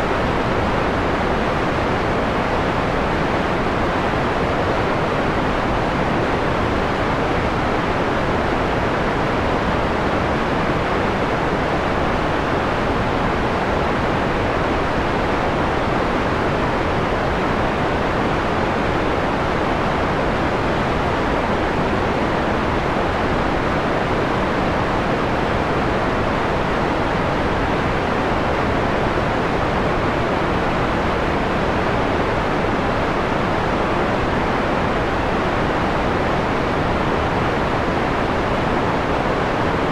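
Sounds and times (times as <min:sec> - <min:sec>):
filtered white noise: 0:00.0 - 0:39.9.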